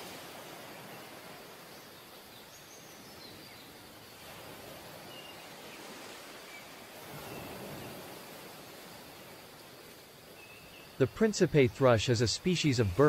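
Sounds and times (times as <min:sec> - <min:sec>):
soft outdoor hiss: 0:00.0 - 0:13.0.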